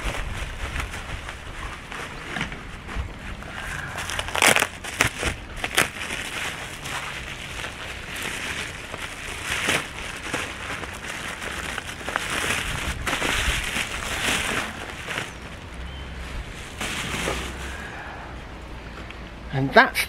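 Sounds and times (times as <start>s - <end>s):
sharp plastic crackles: 0.0s - 18.0s
bubble wrap crinkling: 0.0s - 18.1s.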